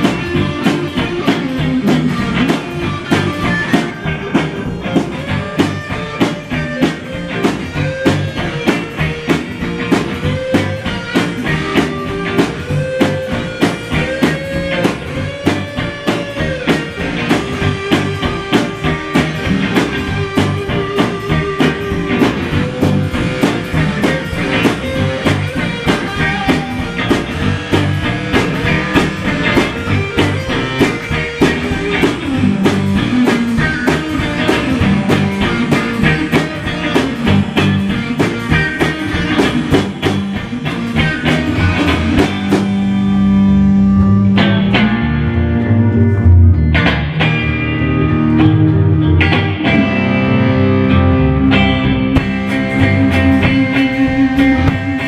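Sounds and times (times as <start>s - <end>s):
drum kit beat: 0.0s - 45.0s, 45.6s - 55.0s
electric guitar lead with bends: 0.0s - 55.0s.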